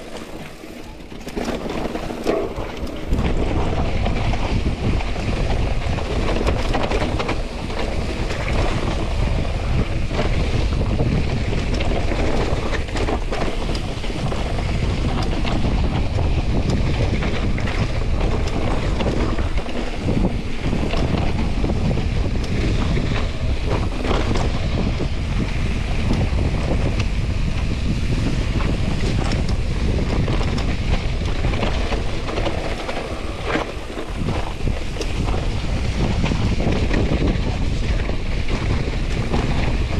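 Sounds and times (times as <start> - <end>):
bike rattling clicks and knocks: 0.0 - 39.9
tyres on muddy trail: 0.0 - 39.9
wind buffeting microphone: 0.0 - 39.9.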